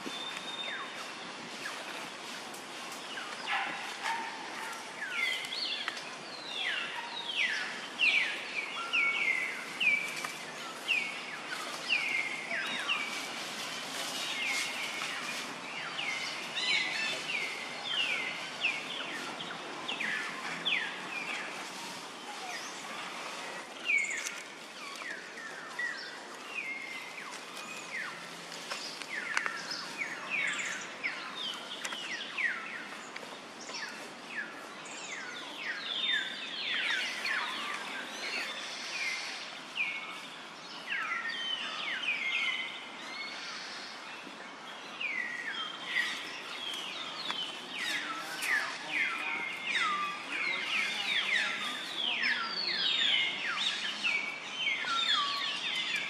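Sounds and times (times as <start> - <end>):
birds chirping: 2.9 - 56.0.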